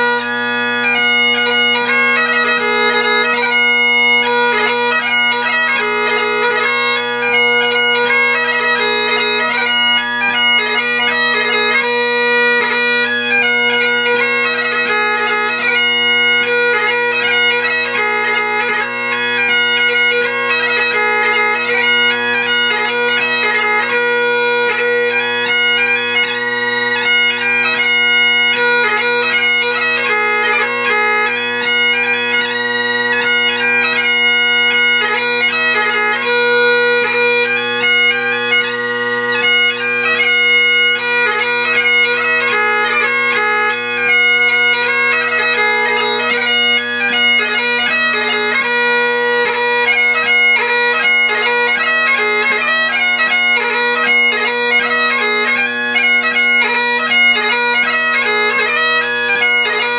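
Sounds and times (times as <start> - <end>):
bagpipe chanter melody: 0.0 - 59.9
bagpipe drones: 0.0 - 59.9.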